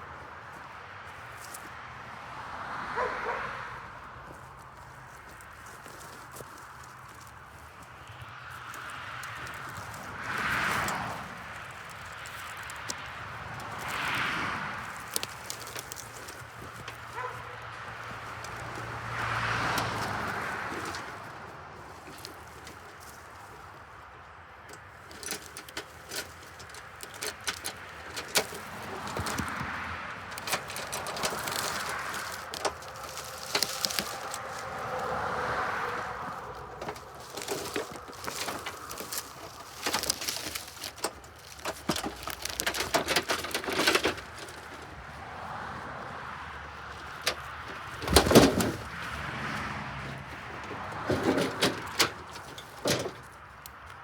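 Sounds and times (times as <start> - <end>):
footsteps crunching on forest floor: 0.0 - 51.6
sticks and twigs cracking: 0.1 - 1.8, 2.9 - 54.0.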